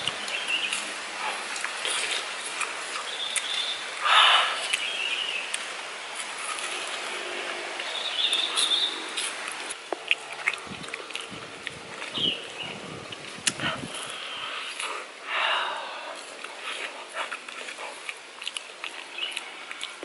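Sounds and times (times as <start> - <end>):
person chewing: 0.0 - 7.2, 7.8 - 20.0.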